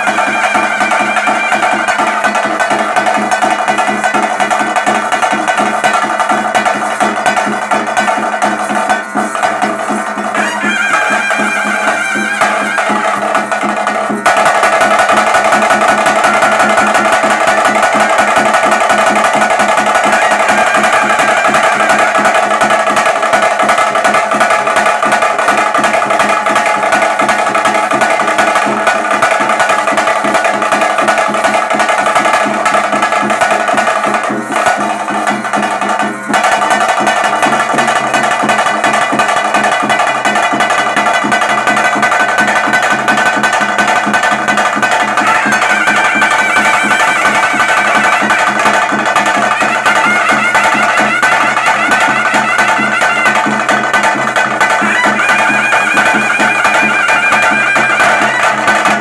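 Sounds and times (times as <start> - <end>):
fast dense drumming: 0.0 - 59.0
held melody: 0.0 - 59.0.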